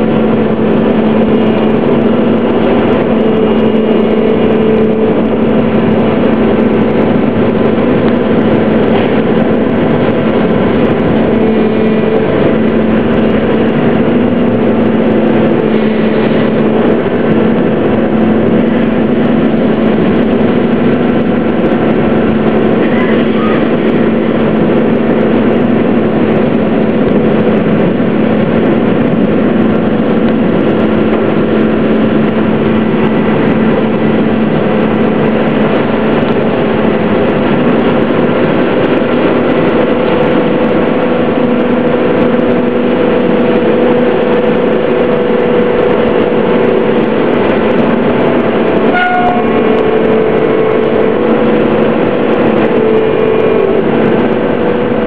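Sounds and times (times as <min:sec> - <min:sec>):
ferry engine droning: 0:00.0 - 0:55.0.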